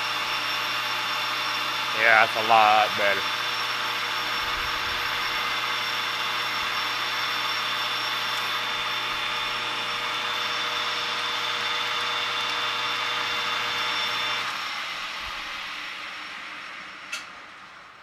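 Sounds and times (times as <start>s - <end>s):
metal lathe running: 0.0s - 17.3s.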